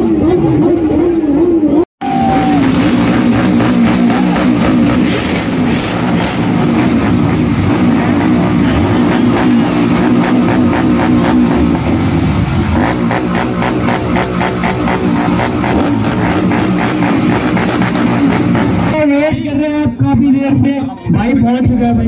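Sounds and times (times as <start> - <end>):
motorcycle engines idling: 1.3 - 19.0.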